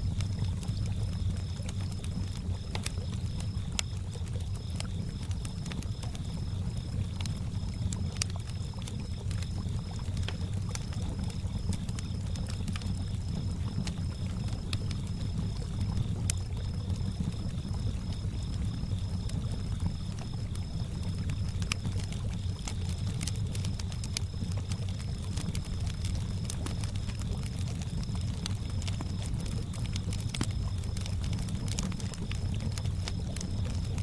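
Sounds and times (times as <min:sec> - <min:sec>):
crickets chirping: 0:00.0 - 0:34.0
wood fire crackling and popping: 0:00.0 - 0:34.0.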